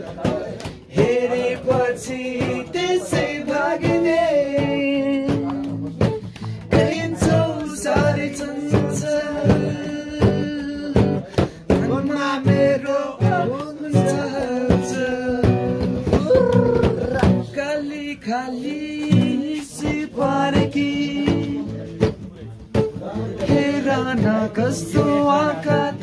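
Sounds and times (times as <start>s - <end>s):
person singing: 0.0s - 26.0s
strummed guitar: 0.0s - 26.0s.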